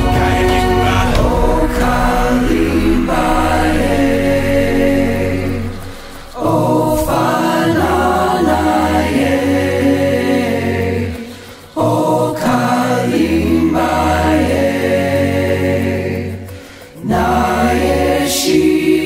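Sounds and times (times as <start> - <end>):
choir-like vocals over chords: 0.0 - 19.0.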